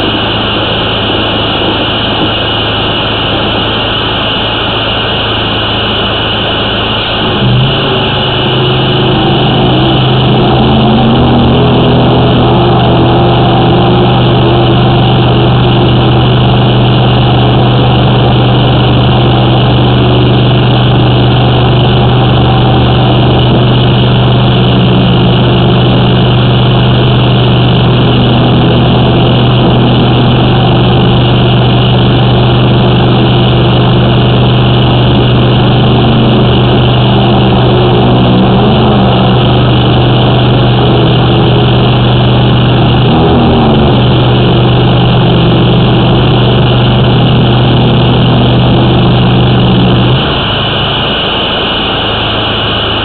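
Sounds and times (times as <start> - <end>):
engine droning steadily: 0.0 - 53.0.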